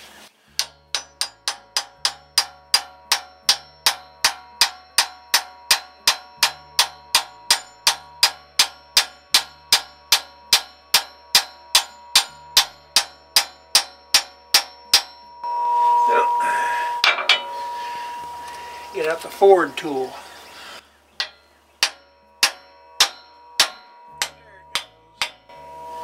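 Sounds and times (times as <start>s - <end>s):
hammer striking steel pin: 0.5s - 15.5s, 17.0s - 19.2s, 21.2s - 26.0s.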